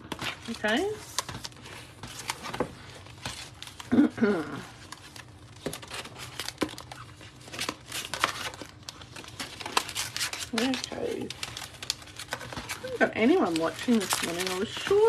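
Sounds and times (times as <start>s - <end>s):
plastic and paper crinkling: 0.0s - 15.0s.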